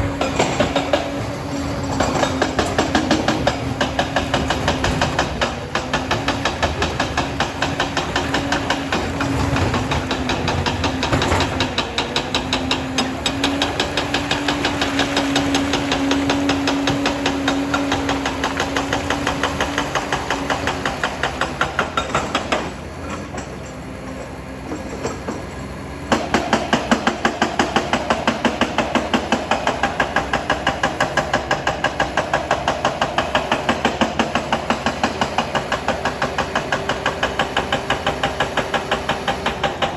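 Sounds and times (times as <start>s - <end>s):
diesel engine clattering: 0.0s - 39.9s.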